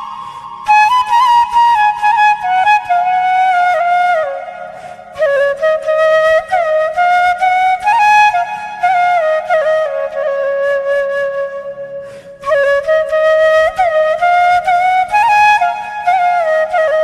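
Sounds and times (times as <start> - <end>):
solo flute slow melody: 0.0 - 17.0.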